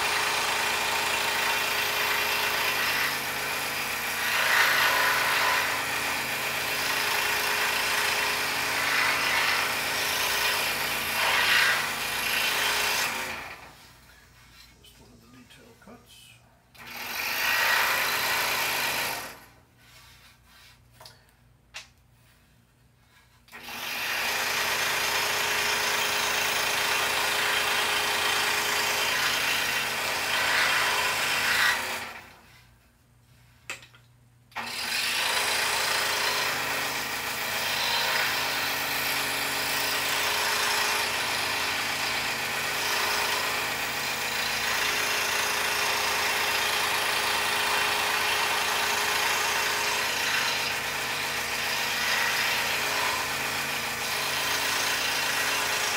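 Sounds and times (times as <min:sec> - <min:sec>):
scroll saw cutting: 0:00.0 - 0:13.9, 0:16.8 - 0:20.8, 0:23.1 - 0:32.6, 0:34.6 - 0:55.9.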